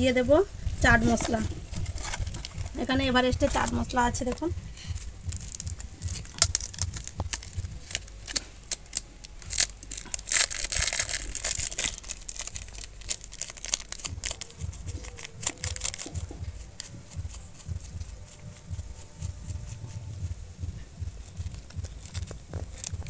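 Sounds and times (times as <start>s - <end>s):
packet crinkling and rustling: 0.6s - 19.6s, 21.0s - 23.0s.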